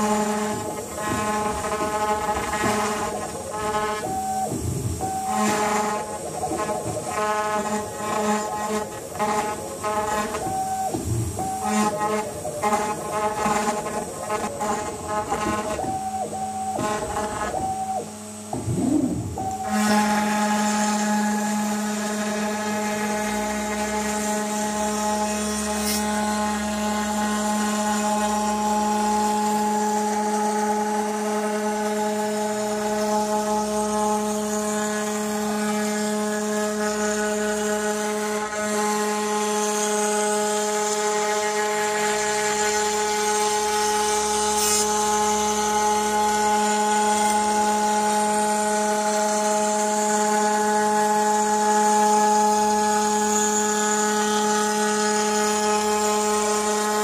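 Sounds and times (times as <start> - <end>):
hiss of wood cutting: 0.0 - 57.0
router spindle whining: 0.0 - 57.0.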